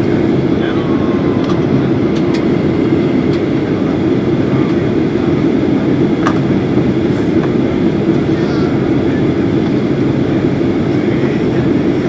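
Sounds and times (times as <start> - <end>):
aircraft cabin ventilation rumble: 0.0 - 12.0.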